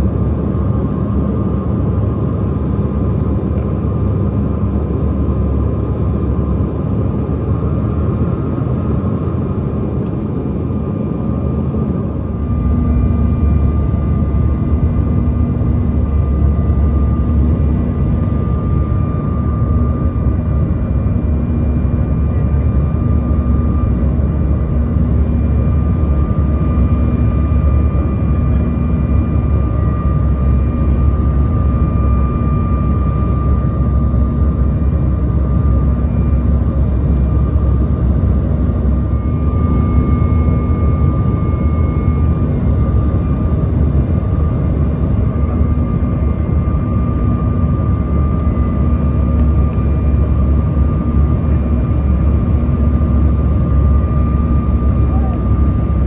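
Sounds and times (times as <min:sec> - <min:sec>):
jet engines droning: 0:00.0 - 0:56.0
thin steady whine: 0:00.0 - 0:56.0.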